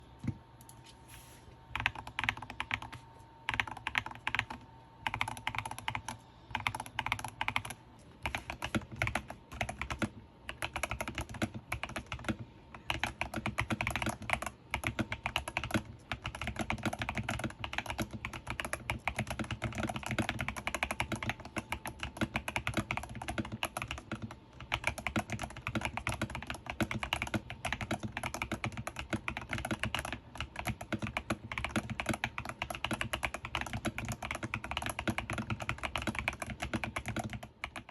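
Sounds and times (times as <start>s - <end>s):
mechanical keyboard typing: 1.7s - 37.9s.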